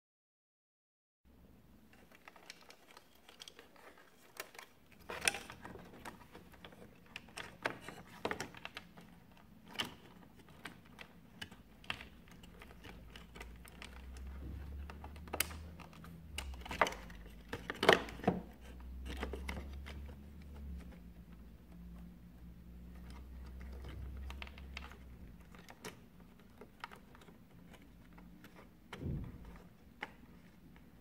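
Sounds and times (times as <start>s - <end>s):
plastic parts clicking: 1.8s - 31.0s.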